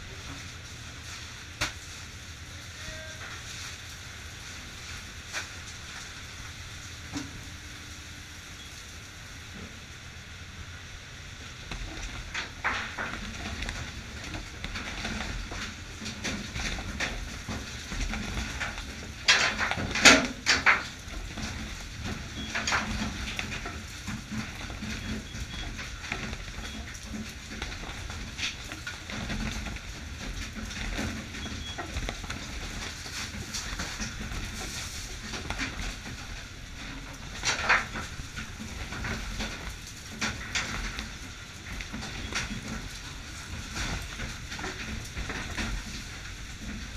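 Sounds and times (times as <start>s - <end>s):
boat engine rumble: 0.0s - 46.9s.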